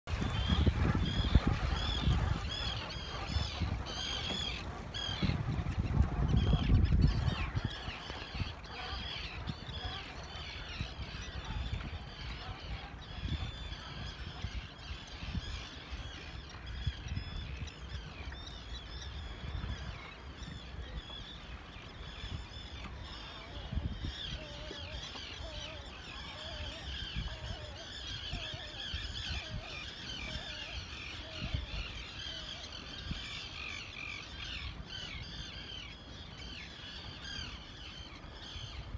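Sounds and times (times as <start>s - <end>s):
low repeated bird calls: 0.1s - 38.9s
seabirds calling: 0.1s - 38.9s.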